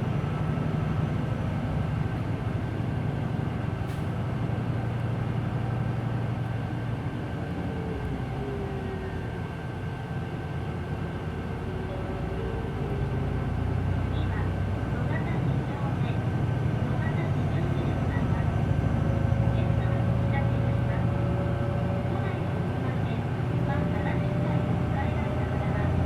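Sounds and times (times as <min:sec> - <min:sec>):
bus engine drone: 0:00.0 - 0:26.0.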